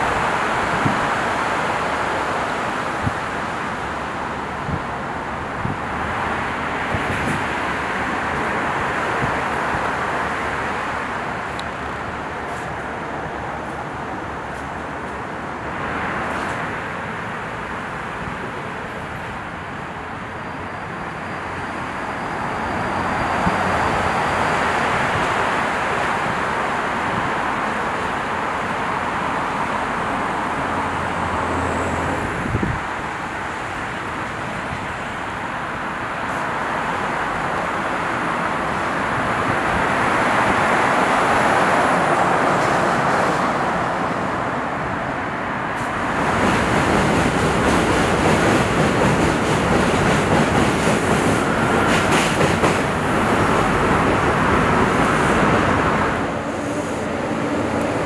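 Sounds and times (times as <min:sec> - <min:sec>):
train running on rails: 0:00.0 - 0:58.0.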